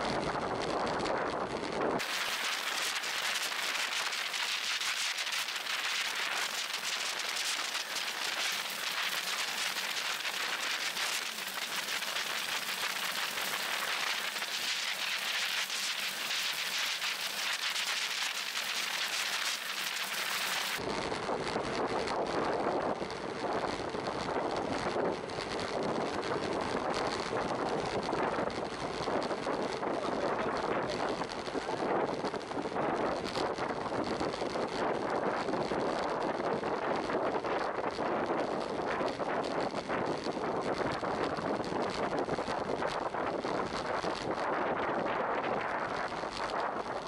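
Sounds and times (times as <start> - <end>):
wind and tyre noise: 0.0 - 14.6, 19.7 - 47.0.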